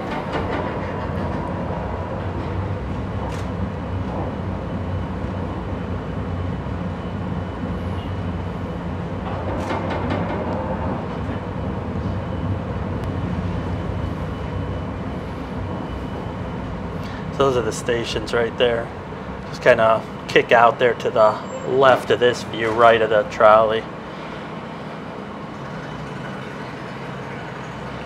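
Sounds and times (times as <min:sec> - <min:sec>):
low motor hum: 0:00.0 - 0:28.0
streetcar wheels rumbling on rail: 0:00.0 - 0:28.0.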